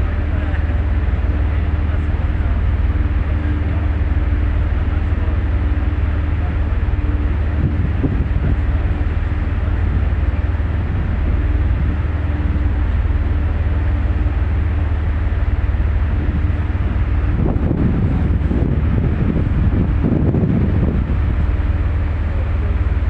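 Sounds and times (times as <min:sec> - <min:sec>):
faint steady hum: 0:00.0 - 0:23.0
ferry engines rumbling: 0:00.0 - 0:23.0.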